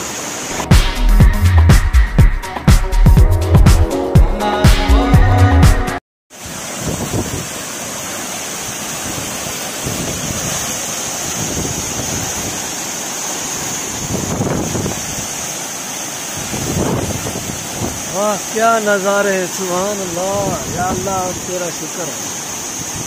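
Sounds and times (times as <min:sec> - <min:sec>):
waterfall rushing: 0:00.0 - 0:03.2, 0:06.3 - 0:23.0.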